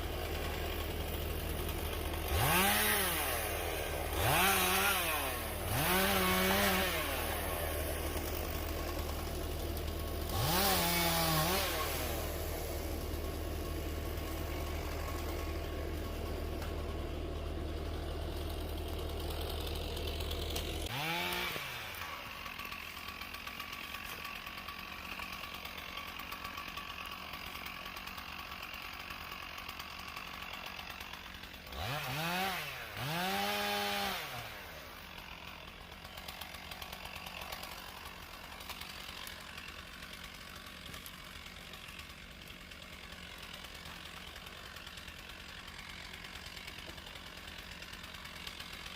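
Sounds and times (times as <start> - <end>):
chainsaw idling and revving: 0.0 - 48.9.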